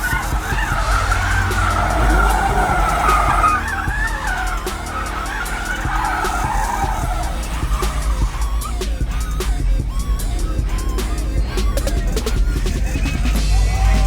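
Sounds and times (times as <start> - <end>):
car tyres squealing: 0.0 - 14.0.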